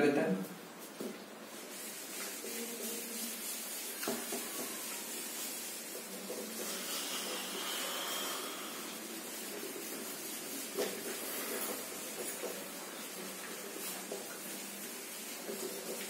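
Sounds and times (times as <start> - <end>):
eraser rubbing on whiteboard: 1.6 - 16.0.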